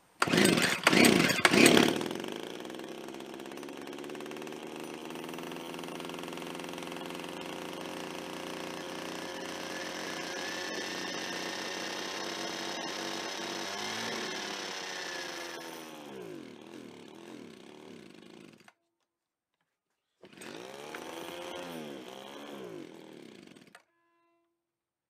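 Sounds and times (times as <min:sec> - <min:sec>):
small two-stroke engine stalling: 0:00.2 - 0:18.8, 0:20.2 - 0:23.9.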